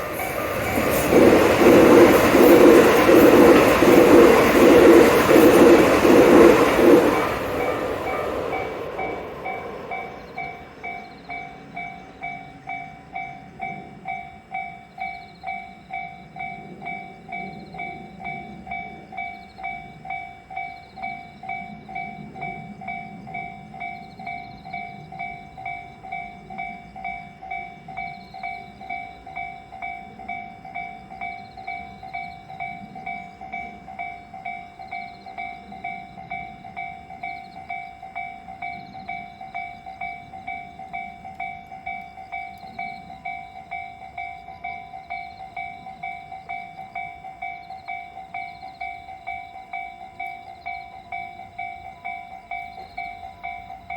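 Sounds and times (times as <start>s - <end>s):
train passing: 0.0s - 53.9s.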